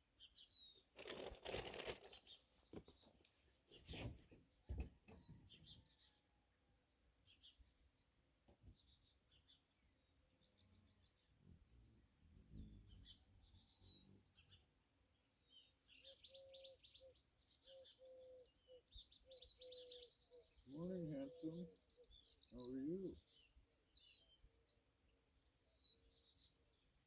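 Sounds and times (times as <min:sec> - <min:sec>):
small birds chirping and trilling: 0:00.2 - 0:06.3, 0:07.2 - 0:27.0.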